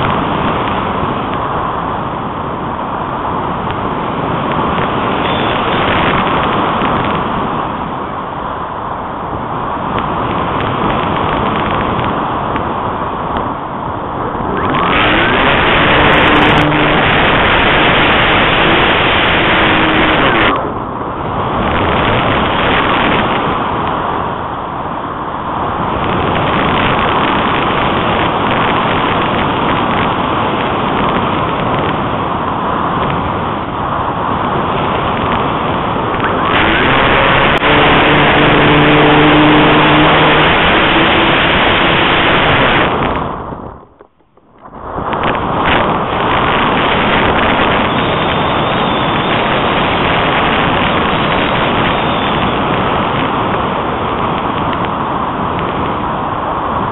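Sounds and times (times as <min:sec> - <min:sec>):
rushing wind over microphone: 0:00.0 - 0:56.9.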